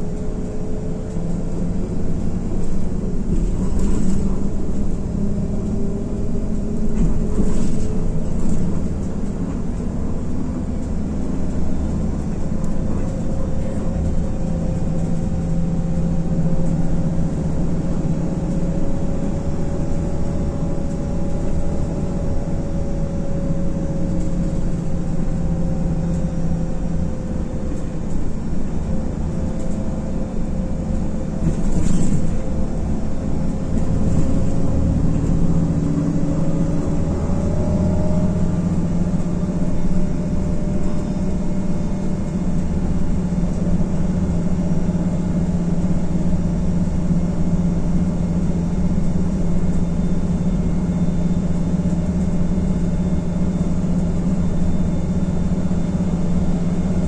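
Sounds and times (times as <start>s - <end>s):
bus engine rumble with whine: 0.0s - 57.0s.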